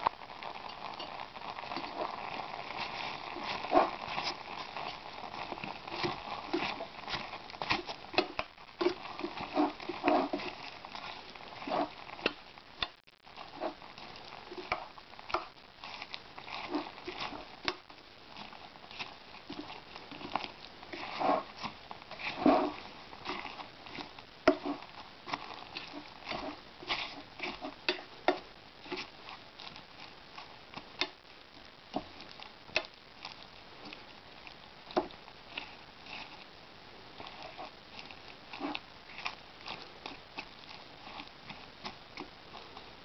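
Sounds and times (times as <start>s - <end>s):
spoon stirring fruit in a pot: 0.0s - 31.2s, 31.9s - 36.5s, 37.1s - 43.0s.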